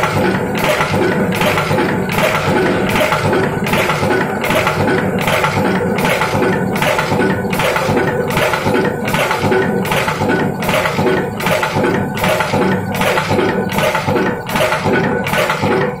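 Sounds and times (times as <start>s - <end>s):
power press clatter: 0.0s - 16.0s
steady machine hum: 0.0s - 16.0s.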